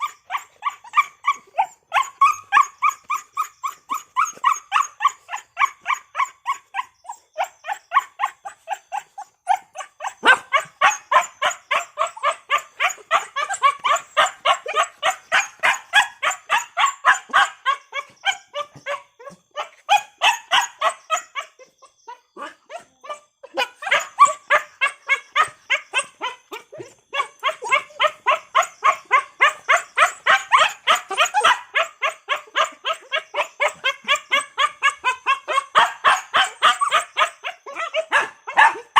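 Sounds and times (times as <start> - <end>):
dog barking: 4.4 - 38.9.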